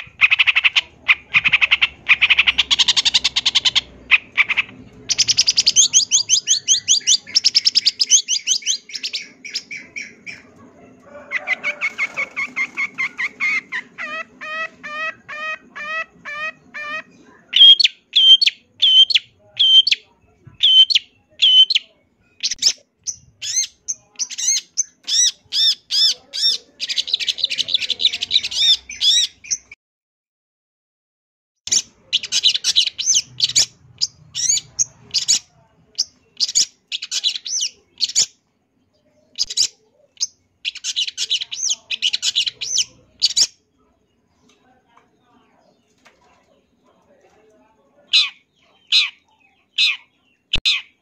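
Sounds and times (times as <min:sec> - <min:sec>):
shrike calling and chattering: 0:00.0 - 0:29.8, 0:31.7 - 0:46.8, 0:48.0 - 0:51.0.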